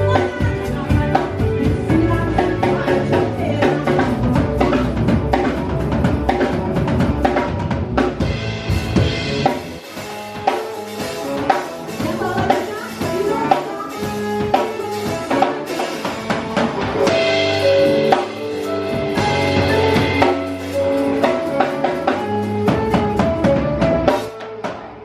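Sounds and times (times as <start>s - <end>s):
held melodic notes: 0.0s - 24.3s
drum kit beat: 0.0s - 25.0s.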